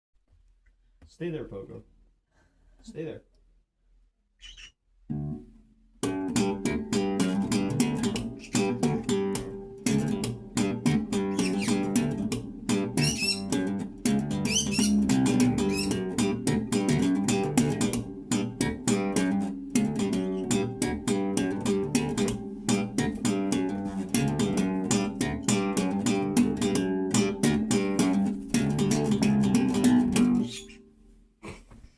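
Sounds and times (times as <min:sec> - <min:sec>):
bass guitar plucked notes: 0:05.1 - 0:30.8.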